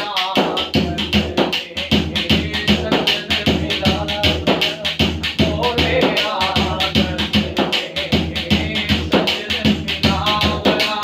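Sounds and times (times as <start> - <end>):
frame drum beat: 0.0 - 11.0
person singing: 0.0 - 11.0.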